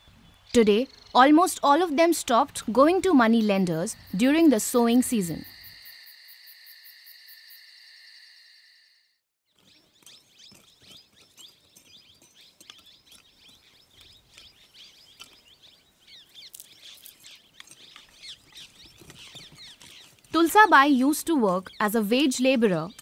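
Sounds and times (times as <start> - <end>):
small birds chirping: 0.0 - 5.7, 9.5 - 23.0.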